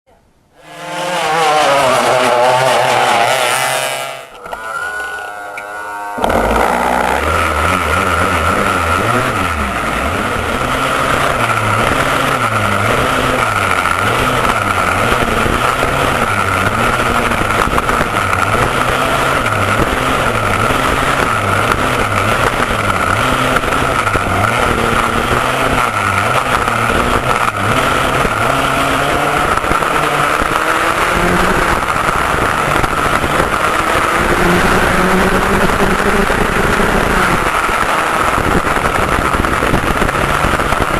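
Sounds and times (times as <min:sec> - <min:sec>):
kart engine revving: 0:00.6 - 0:05.1, 0:06.2 - 0:40.9.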